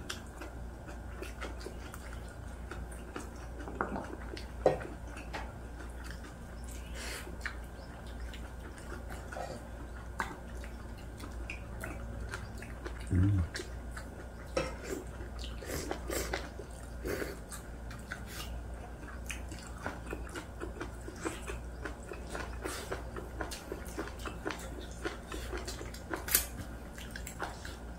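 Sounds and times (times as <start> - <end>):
chewing and mouth sounds: 0.0 - 27.9.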